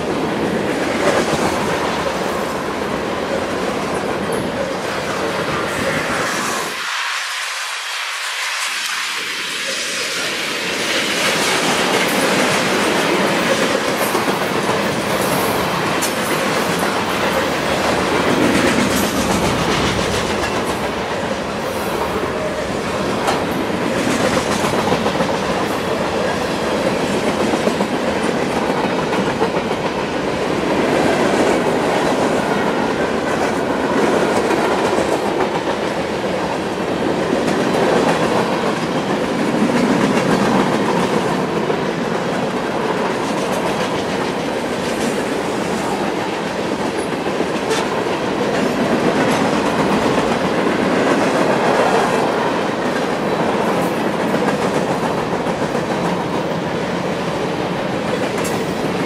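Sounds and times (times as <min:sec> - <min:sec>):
train rolling: 0:00.0 - 0:59.0
train wheels clicking over rail joints: 0:10.2 - 0:59.0.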